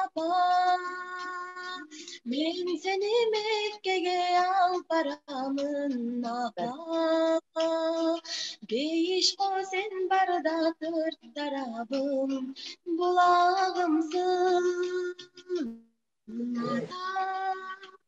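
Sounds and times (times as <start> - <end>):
woman singing unaccompanied: 0.0 - 18.0.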